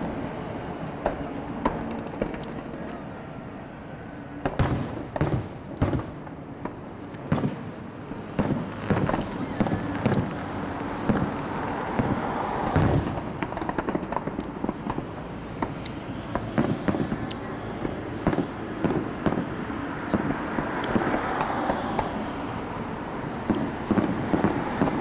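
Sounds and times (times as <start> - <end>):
firework shells booming: 0.0 - 3.4, 4.1 - 22.6, 23.3 - 25.0
small firework cracks: 0.0 - 3.4, 4.3 - 25.0.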